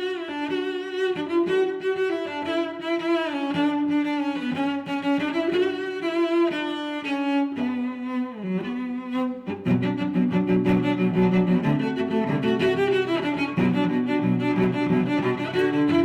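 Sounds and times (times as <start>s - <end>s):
cello and violin melody: 0.0s - 16.0s.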